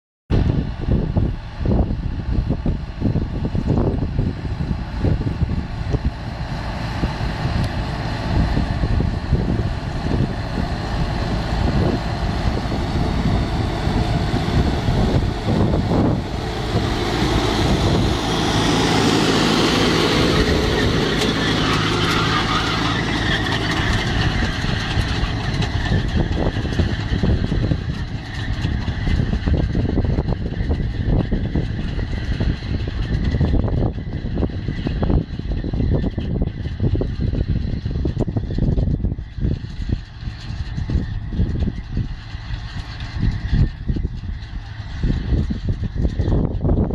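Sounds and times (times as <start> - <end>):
tractor diesel engine running: 0.3 - 46.9.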